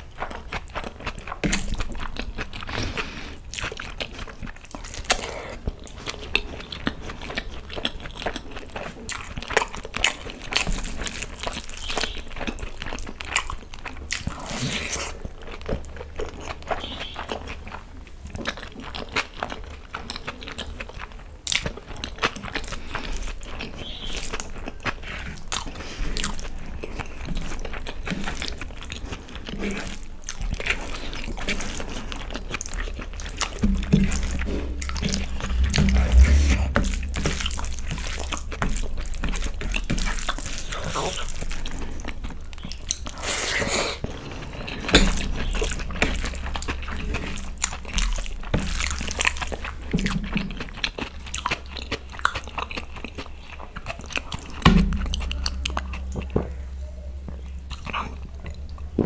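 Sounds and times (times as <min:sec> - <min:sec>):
close-miked chewing: 0:00.0 - 0:59.0.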